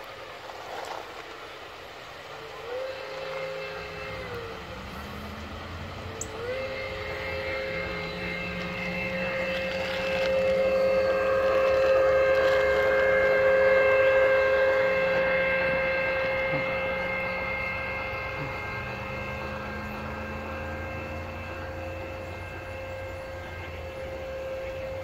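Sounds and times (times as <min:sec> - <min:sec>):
steam locomotive whistle: 0:01.5 - 0:25.0.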